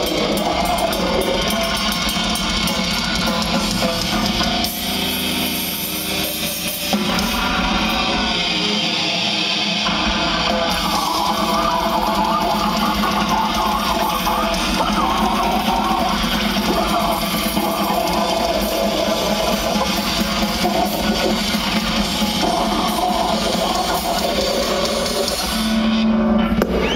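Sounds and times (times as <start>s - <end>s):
distorted electric guitar: 0.0s - 26.9s
metal band playing live: 0.0s - 26.9s.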